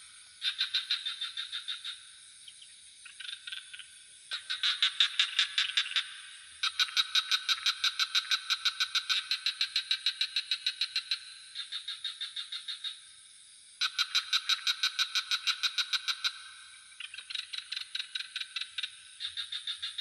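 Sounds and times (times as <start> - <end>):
crickets droning: 0.0 - 20.0
frogs calling in pulsed trills: 0.0 - 20.0.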